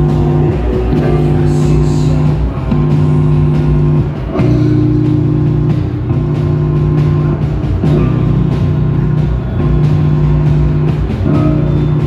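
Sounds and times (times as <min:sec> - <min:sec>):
distorted guitar and bass: 0:00.0 - 0:12.0
drum kit: 0:00.0 - 0:12.0.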